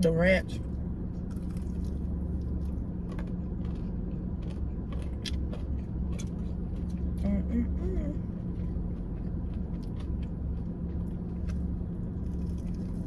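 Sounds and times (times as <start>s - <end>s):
steady low hum: 0.0s - 13.0s
crunchy chewing: 0.7s - 7.3s, 8.2s - 13.0s.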